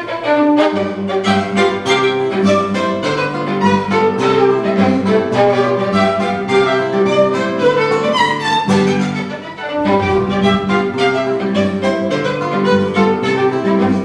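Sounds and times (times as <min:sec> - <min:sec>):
guitar playing: 0:00.0 - 0:14.0
violin melody: 0:00.0 - 0:14.0.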